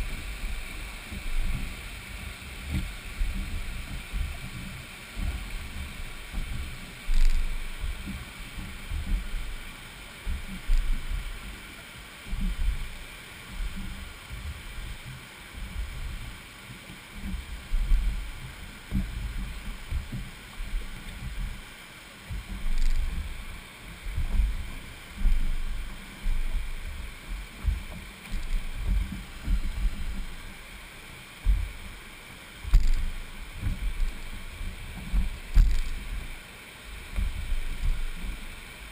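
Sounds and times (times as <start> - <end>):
wind buffeting microphone: 0.0 - 16.4, 17.1 - 36.4
turbulent river water rushing: 0.0 - 38.9
water slapping hull: 0.0 - 38.9.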